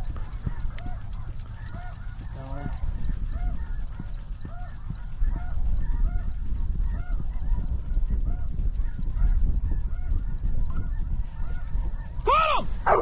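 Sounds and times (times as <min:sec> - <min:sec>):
geese honking: 0:00.2 - 0:07.6, 0:09.2 - 0:13.0.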